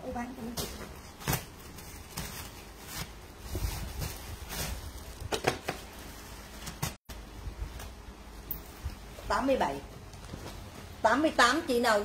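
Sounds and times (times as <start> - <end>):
clothes and plastic sack rustling: 0.1 - 8.1, 8.8 - 11.5.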